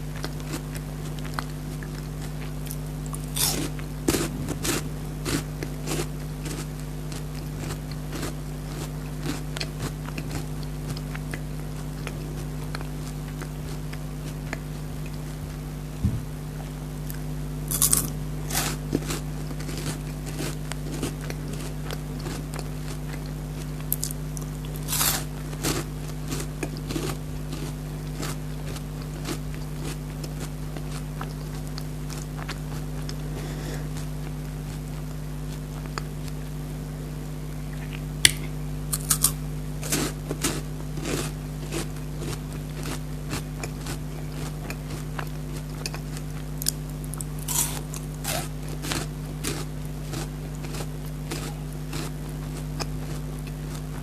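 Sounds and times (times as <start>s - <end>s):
steady low hum: 0.0s - 54.0s
crunching wafer bar: 0.2s - 14.6s, 17.7s - 34.1s, 38.2s - 53.9s.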